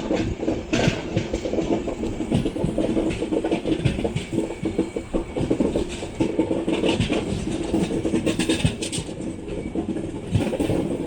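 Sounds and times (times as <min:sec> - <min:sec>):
train running hum: 0:00.0 - 0:11.0
train wheels clattering over track: 0:00.0 - 0:11.0.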